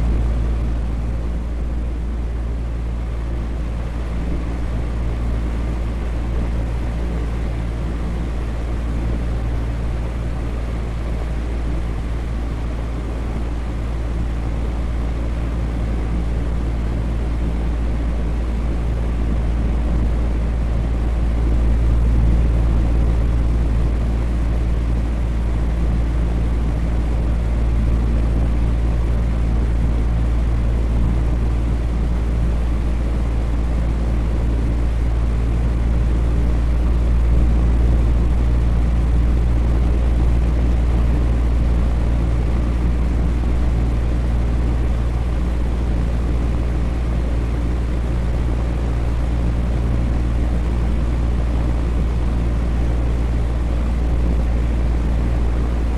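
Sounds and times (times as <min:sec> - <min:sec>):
electric fan whooshing: 0:00.0 - 0:55.9.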